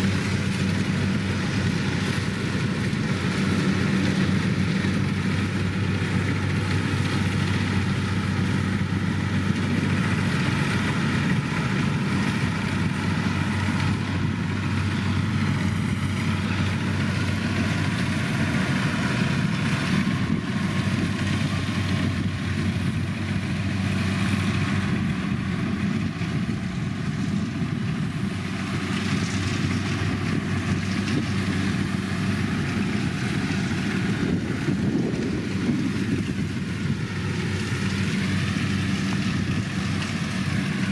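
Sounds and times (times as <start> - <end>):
diesel engine running: 0.0 - 40.9
machinery noise: 0.0 - 40.9.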